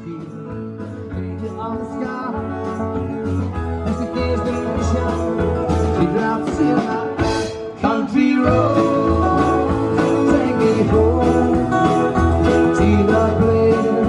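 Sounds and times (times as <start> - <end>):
live acoustic rock band: 0.0 - 14.0.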